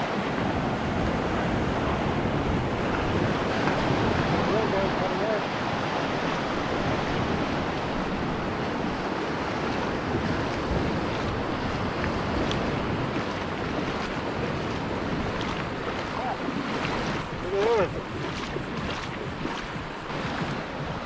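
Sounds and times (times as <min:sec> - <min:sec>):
surf washing over sand: 0:00.0 - 0:21.0
wind buffeting microphone: 0:00.0 - 0:21.0.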